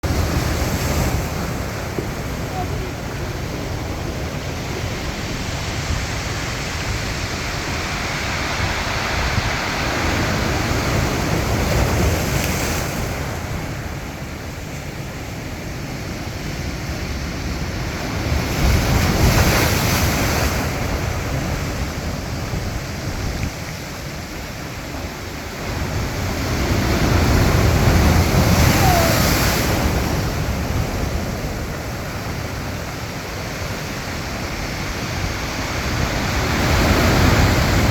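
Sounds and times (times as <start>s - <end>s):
sea waves crashing: 0.0s - 37.9s.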